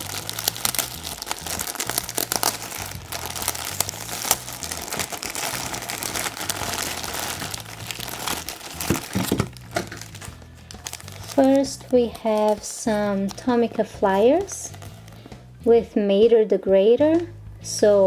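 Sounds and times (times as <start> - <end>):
packaging crinkling and rustling: 0.0 - 15.4.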